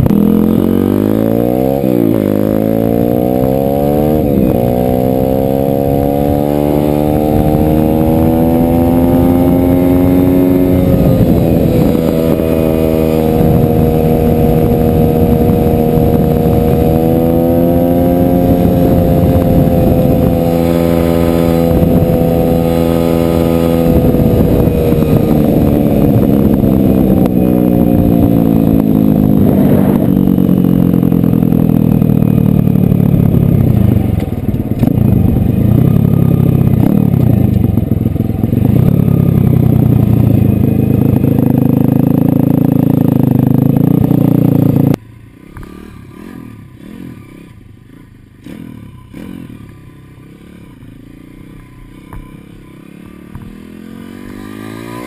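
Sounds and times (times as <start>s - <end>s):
pit bike engine revving: 0.0s - 55.0s.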